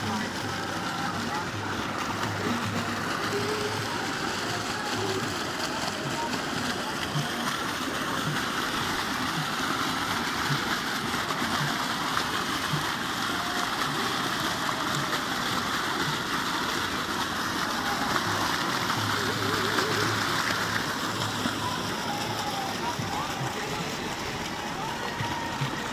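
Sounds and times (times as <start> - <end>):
water gushing into a ditch: 0.0 - 25.9.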